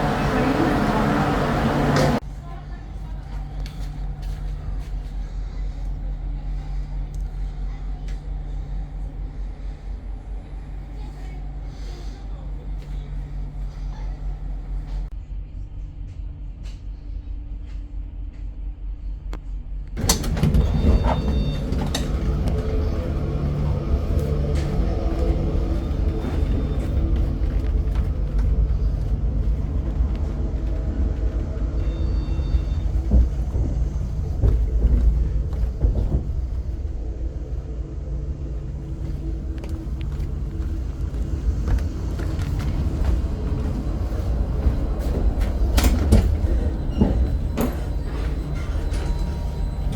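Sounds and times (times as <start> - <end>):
constant hum: 0.0 - 49.9
passenger train rumbling: 0.0 - 49.9.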